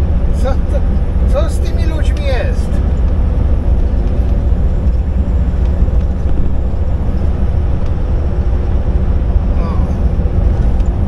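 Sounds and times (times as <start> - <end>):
diesel engine rumble: 0.0 - 11.0
road noise: 0.0 - 11.0.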